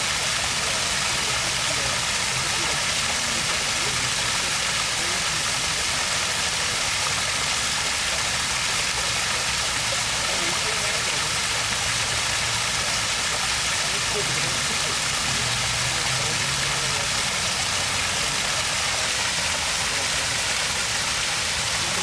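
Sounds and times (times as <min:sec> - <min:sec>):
water stream flowing: 0:00.0 - 0:22.0.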